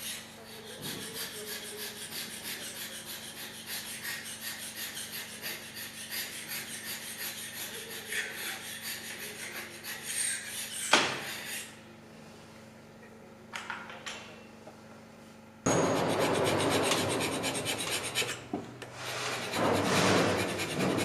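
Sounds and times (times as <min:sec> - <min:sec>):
hand scraper rasping on metal: 0:00.0 - 0:11.8, 0:15.7 - 0:21.0.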